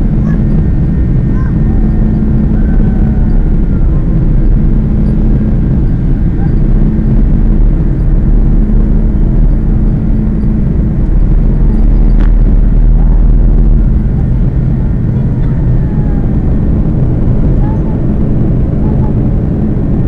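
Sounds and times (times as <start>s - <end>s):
jet engine rumble in cabin: 0.0s - 20.0s.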